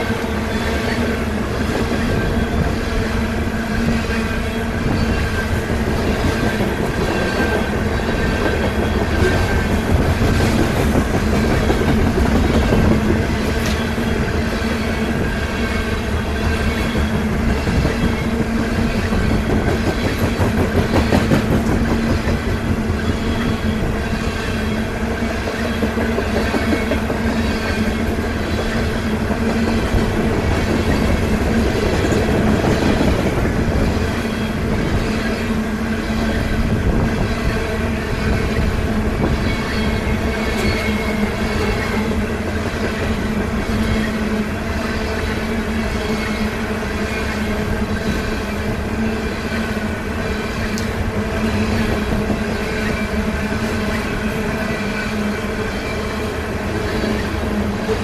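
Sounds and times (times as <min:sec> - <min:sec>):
freight train rumbling past: 0:00.0 - 0:58.0
wheels clacking on rails: 0:00.0 - 0:58.0.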